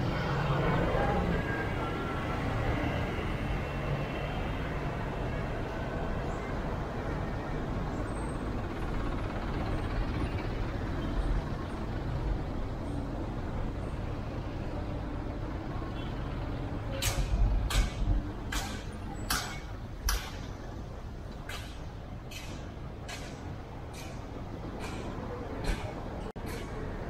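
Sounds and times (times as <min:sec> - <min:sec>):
vehicle road and engine rumble: 0:00.0 - 0:27.0.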